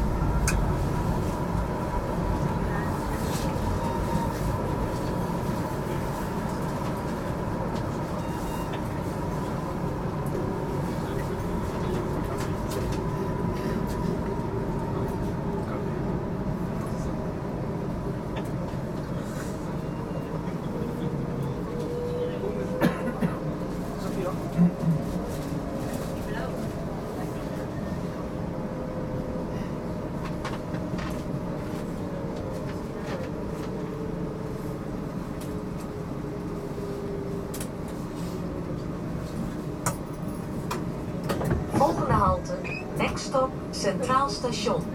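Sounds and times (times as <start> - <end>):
tram rumble: 0.0 - 44.9.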